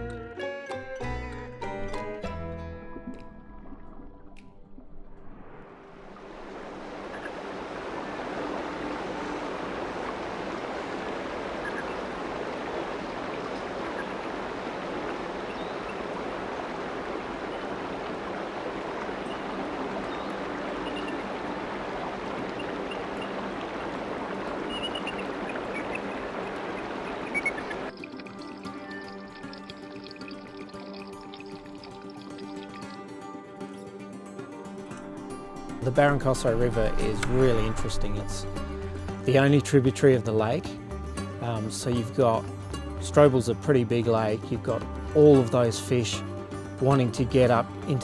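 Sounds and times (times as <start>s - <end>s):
stream water rushing over rocks: 1.7s - 33.4s, 34.8s - 48.0s.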